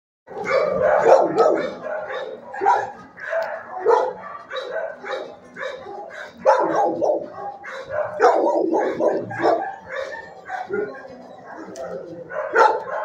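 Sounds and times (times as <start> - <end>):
dogs barking: 0.3 - 13.0.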